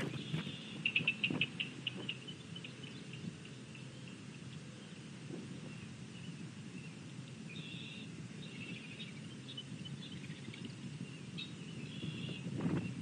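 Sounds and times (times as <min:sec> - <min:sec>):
birds chirping: 0:00.0 - 0:13.0
low background rumble: 0:00.0 - 0:13.0.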